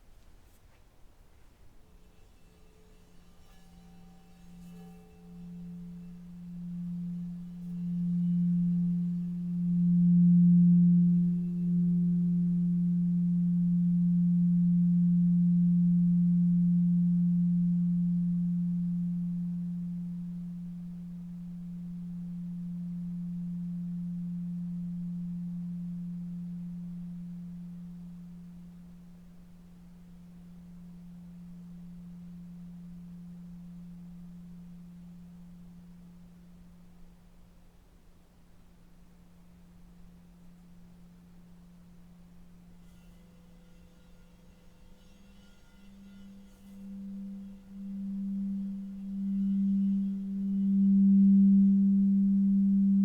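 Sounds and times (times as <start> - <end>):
low sustained healing tone: 0.0 - 53.0.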